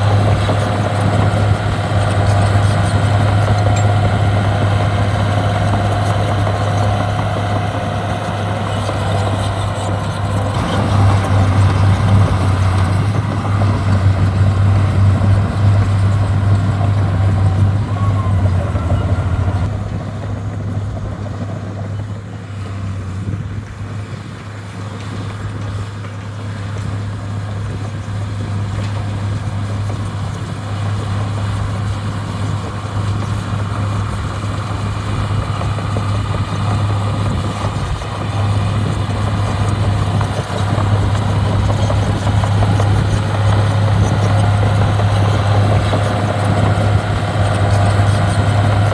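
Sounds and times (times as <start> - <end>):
diesel earthmoving engine hum: 0.0 - 48.9.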